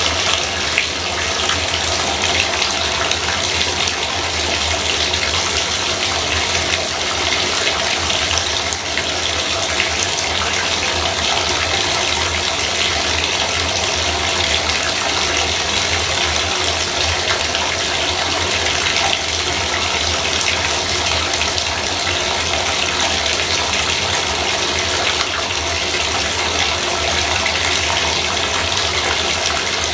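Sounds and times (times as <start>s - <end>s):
water pouring into a bathtub: 0.0s - 29.9s.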